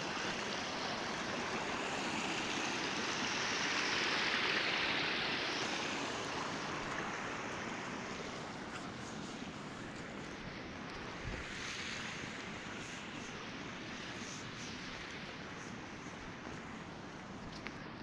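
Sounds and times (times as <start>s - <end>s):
rushing water hiss: 0.0s - 18.0s.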